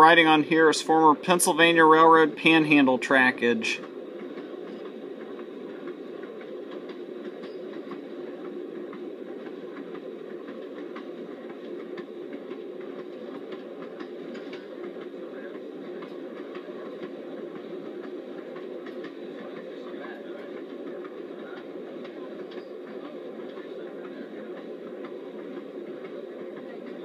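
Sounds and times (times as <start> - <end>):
train rolling rumble: 0.0 - 27.0
wheels clicking on rails: 0.0 - 27.0.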